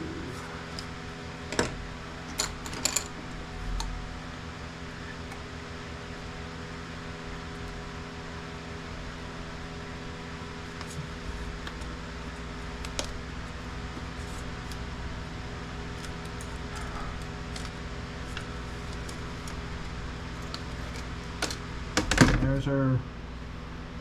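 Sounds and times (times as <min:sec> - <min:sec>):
fan hum: 0:00.0 - 0:24.0.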